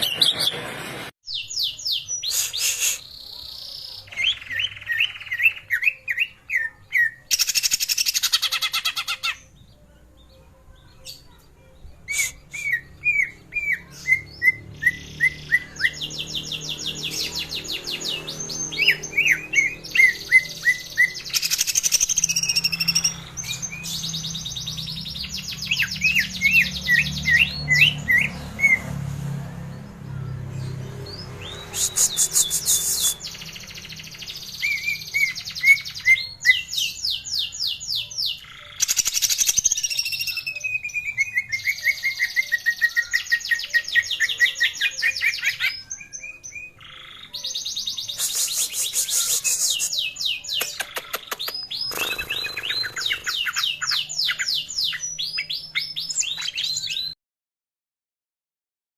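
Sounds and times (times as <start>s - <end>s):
bird singing trills and whistles: 1.3s - 9.6s, 12.0s - 28.8s, 31.3s - 57.2s.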